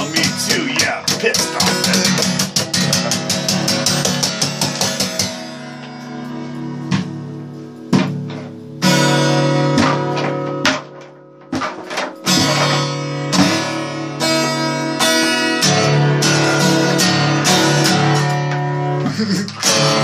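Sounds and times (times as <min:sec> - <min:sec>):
guitar strumming: 0:00.0 - 0:20.0.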